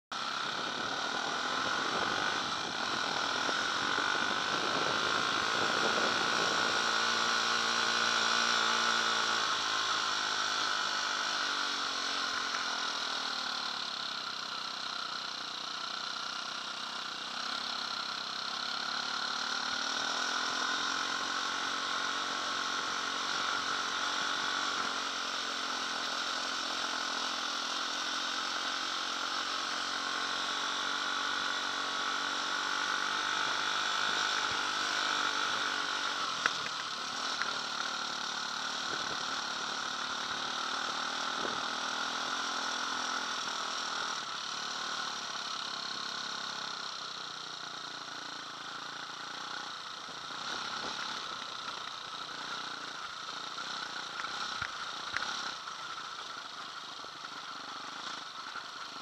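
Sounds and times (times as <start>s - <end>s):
dirt bike engine revving: 0.1s - 59.0s.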